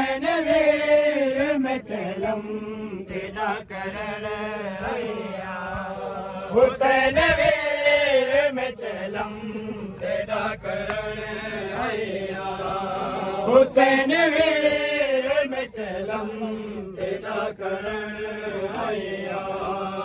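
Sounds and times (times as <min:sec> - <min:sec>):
men chanting a lament: 0:00.0 - 0:20.0.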